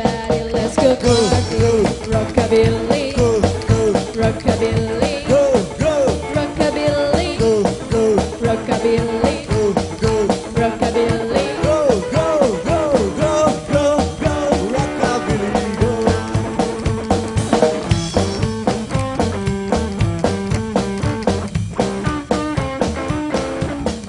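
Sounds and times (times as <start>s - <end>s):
person singing: 0.0s - 19.3s
drum kit: 0.0s - 24.0s
electric guitar: 0.0s - 24.0s
upright double bass: 0.0s - 24.0s.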